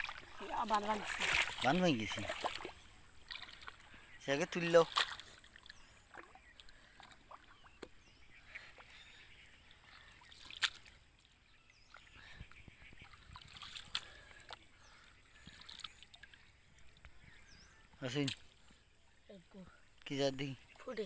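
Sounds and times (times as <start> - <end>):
wet mud squelches: 0.0 - 18.8
small water splashes: 0.0 - 21.0.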